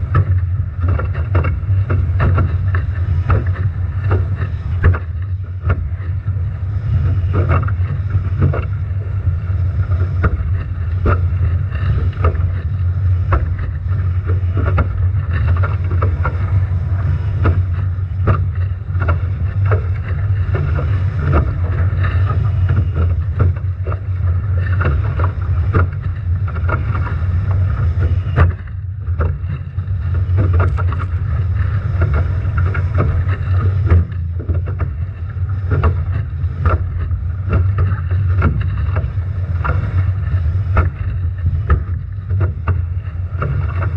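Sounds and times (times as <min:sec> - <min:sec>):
boat pounding through waves: 0:00.0 - 0:43.9.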